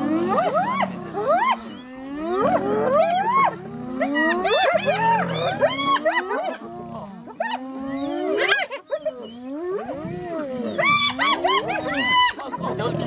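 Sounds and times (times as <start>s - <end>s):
hyenas yelping and giggling: 0.0s - 13.0s
low growls: 0.0s - 13.0s.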